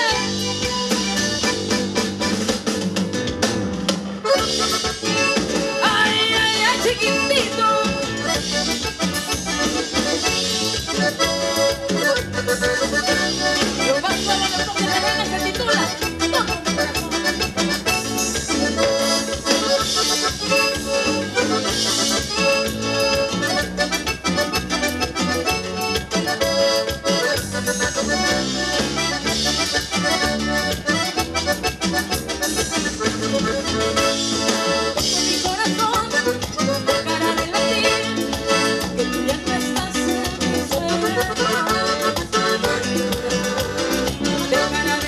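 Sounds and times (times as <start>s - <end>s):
latin dance band with accordion: 0.0s - 45.0s.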